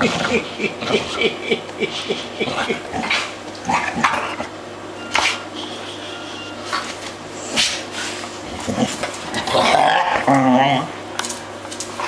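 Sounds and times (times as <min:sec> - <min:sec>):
dogs making play noises: 0:02.0 - 0:12.0.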